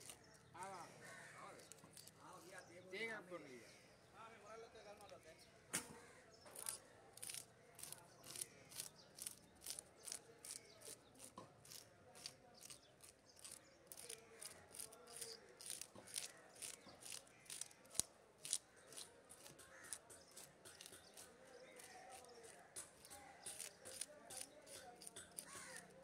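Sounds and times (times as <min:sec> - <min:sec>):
fish scaler scraping scales: 0:00.0 - 0:00.5, 0:01.6 - 0:02.5, 0:06.5 - 0:26.0.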